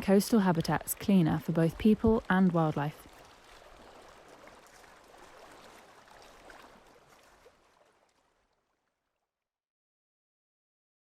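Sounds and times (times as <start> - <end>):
faint rushing water: 0.0 - 8.9.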